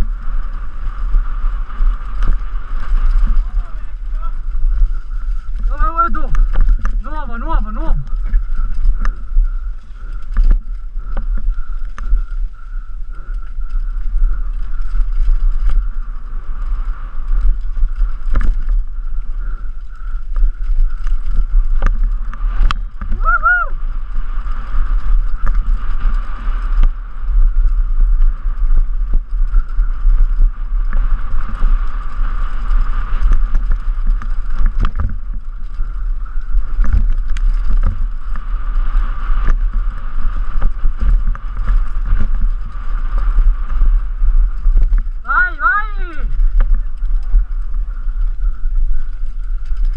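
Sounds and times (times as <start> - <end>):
rattling hiss of bike tyres: 0.0 - 45.3
wind rumbling on microphone: 0.0 - 49.9.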